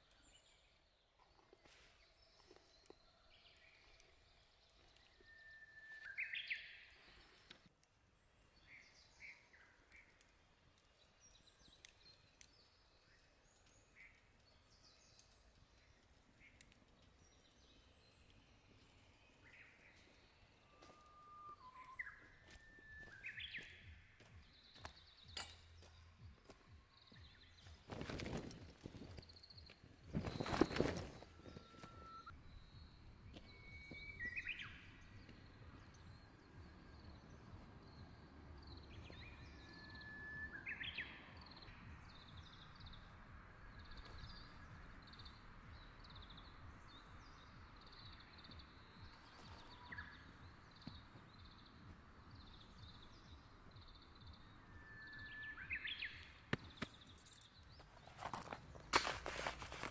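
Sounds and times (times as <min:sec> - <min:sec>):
whistled bird song: 0:01.7 - 0:07.5, 0:11.0 - 0:58.6.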